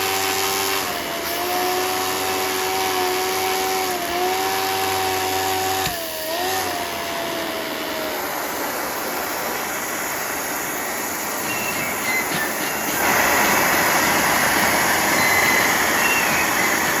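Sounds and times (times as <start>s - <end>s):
machine whirring: 0.0s - 17.0s.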